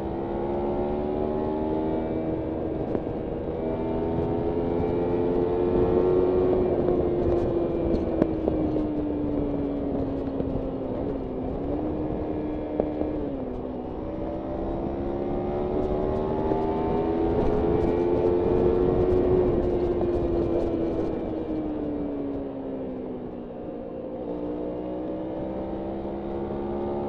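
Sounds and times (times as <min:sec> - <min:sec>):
motorcycle engine revving: 0:00.0 - 0:21.8, 0:24.2 - 0:27.0.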